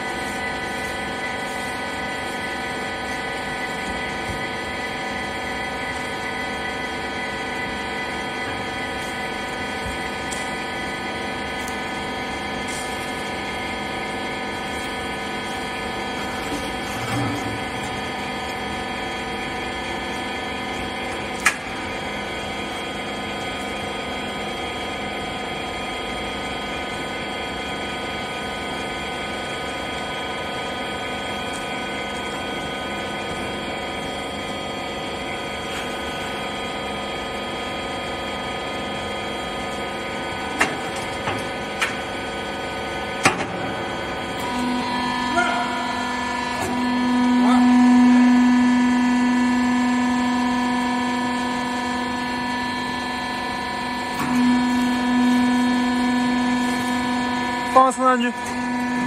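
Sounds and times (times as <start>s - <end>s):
baler machine humming: 0.0s - 59.0s.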